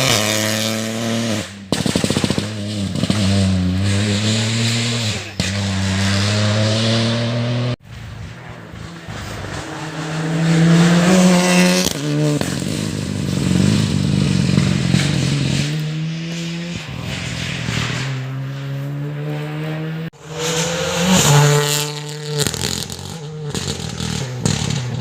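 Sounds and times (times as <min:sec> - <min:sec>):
rally car engines at full throttle: 0:00.0 - 0:25.0.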